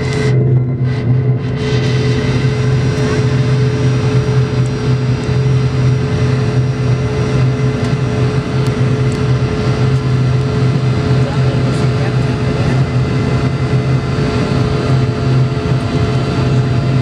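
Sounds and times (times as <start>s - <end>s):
aircraft cabin drone: 0.0s - 17.0s
low hum: 0.0s - 17.0s.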